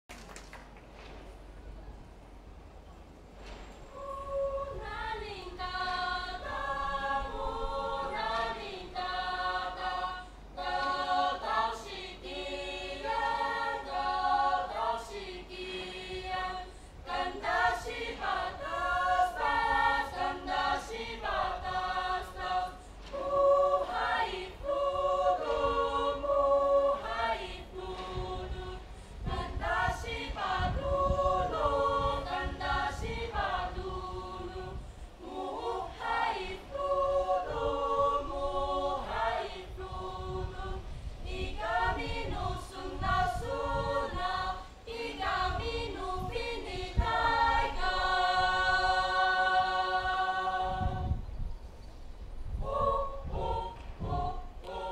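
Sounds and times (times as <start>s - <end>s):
children singing unaccompanied: 3.9s - 51.1s, 52.6s - 54.9s.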